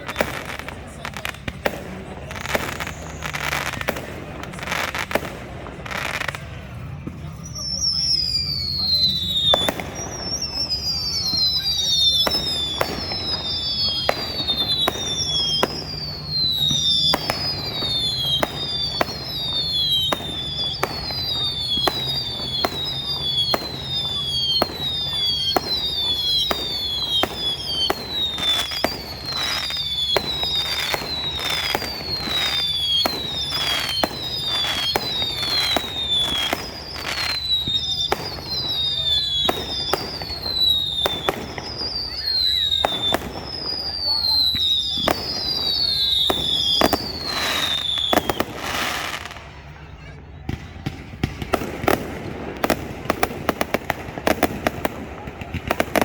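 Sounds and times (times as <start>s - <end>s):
fireworks banging: 0.0s - 56.0s
fireworks whistling: 0.0s - 56.0s.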